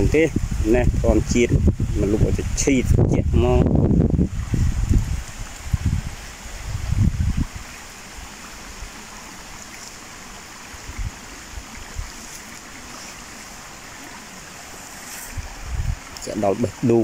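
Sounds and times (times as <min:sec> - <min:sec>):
stream trickling over rocks: 0:00.0 - 0:17.0.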